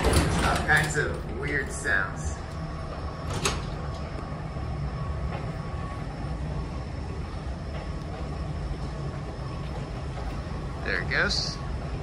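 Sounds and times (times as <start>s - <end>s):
faint steady hum: 0.0s - 12.0s
machinery rumbling: 0.0s - 12.0s.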